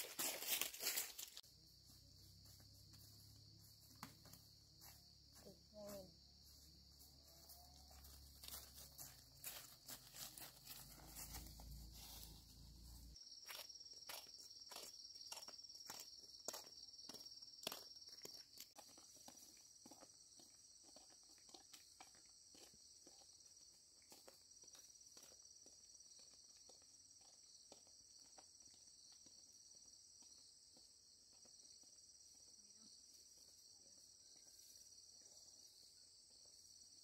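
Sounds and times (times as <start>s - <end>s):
footsteps on a path: 0.0s - 31.8s
insects droning: 0.0s - 37.0s.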